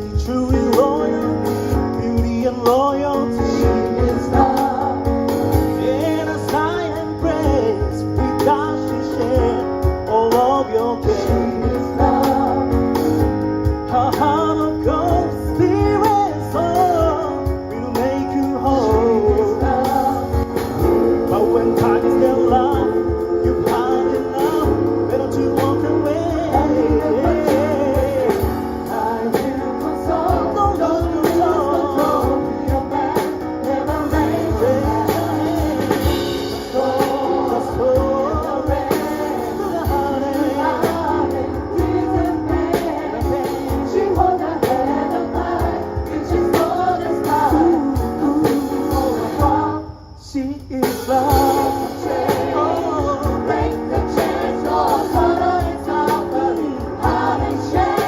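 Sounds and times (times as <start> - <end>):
gospel choir singing: 0.0 - 50.2, 50.8 - 58.0
keyboard: 0.0 - 58.0.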